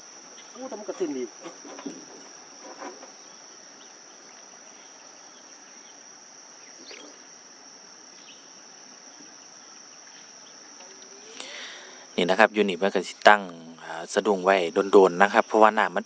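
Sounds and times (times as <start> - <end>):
faint outdoor background noise: 0.0 - 16.0
high-pitched insect drone: 0.0 - 16.0.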